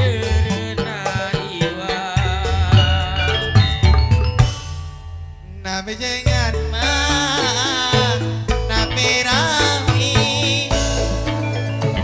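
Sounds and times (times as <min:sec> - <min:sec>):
gamelan-style percussion: 0:00.0 - 0:12.0
wavering melody line: 0:00.0 - 0:12.0
deep sustained low notes: 0:02.2 - 0:12.0.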